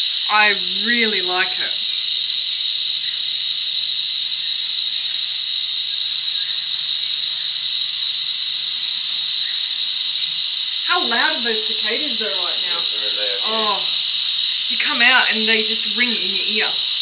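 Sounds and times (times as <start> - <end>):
cicadas chorus: 0.0 - 17.0.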